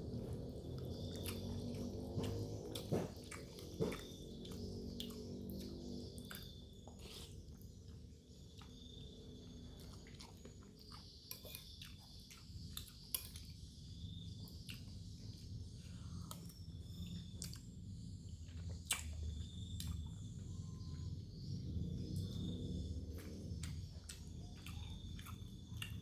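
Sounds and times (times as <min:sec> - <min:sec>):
person chewing noodles: 0:00.0 - 0:21.0, 0:21.8 - 0:26.0.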